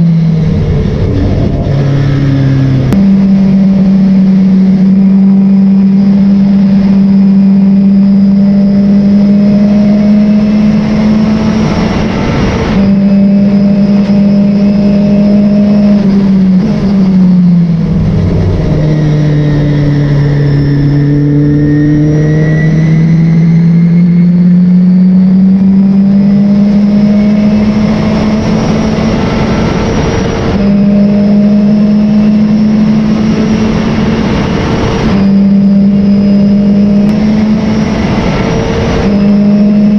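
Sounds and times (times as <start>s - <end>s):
constant rushing noise: 0.0s - 8.4s, 9.0s - 24.0s, 26.8s - 39.9s
race car engine at high revs: 0.0s - 39.9s.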